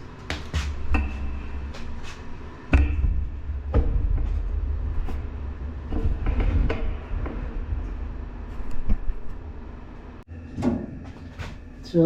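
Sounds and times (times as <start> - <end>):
steady low rumble: 0.0 - 10.4
sharp knocks and clanks: 0.0 - 11.5.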